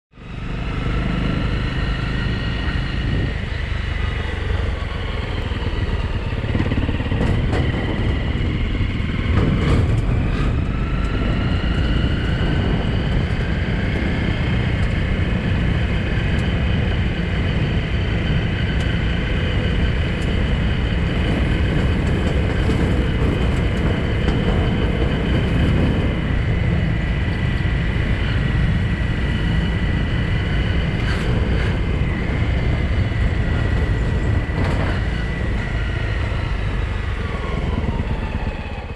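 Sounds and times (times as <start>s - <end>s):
motorcycle engine rumble: 0.1s - 38.9s.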